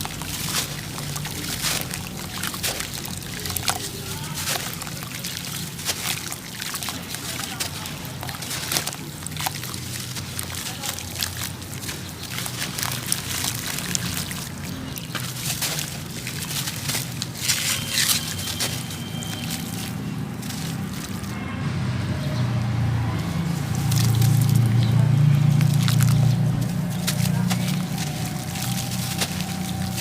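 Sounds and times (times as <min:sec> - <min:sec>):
crumbling crackles and clicks: 0:00.0 - 0:21.4, 0:22.7 - 0:30.0
water sloshing and trickling: 0:00.0 - 0:30.0.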